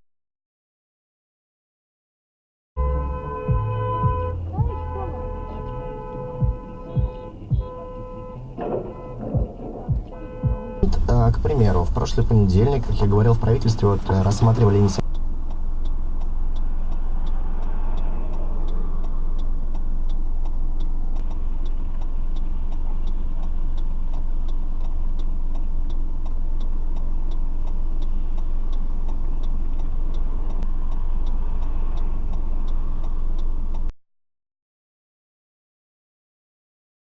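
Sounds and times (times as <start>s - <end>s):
car engine in cabin: 2.8s - 33.9s
road rumble: 2.8s - 33.9s
light even ticking: 3.5s - 33.9s.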